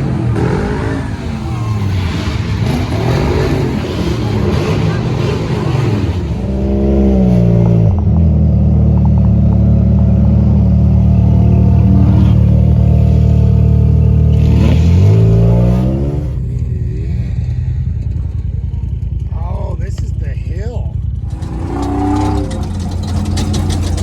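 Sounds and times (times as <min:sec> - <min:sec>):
truck engine revving hard: 0:00.0 - 0:17.6, 0:21.2 - 0:24.0.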